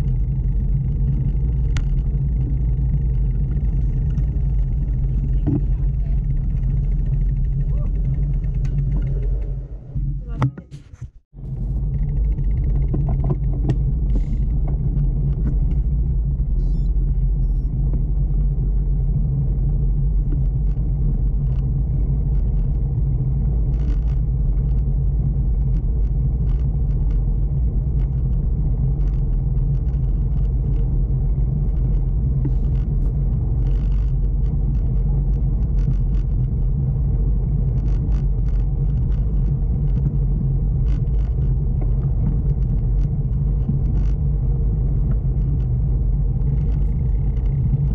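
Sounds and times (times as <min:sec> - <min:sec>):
bicycle rolling on wooden boardwalk: 0:00.0 - 0:10.0, 0:11.4 - 0:47.9.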